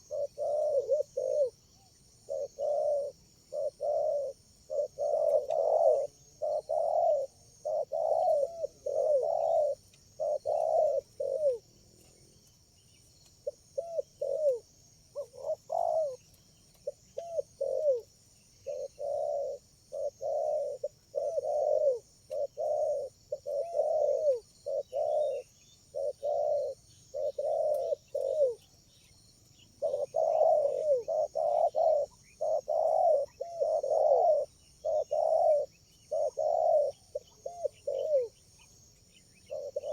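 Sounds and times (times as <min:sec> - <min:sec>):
doves cooing: 0:00.0 - 0:12.1, 0:13.4 - 0:28.8, 0:29.6 - 0:39.9.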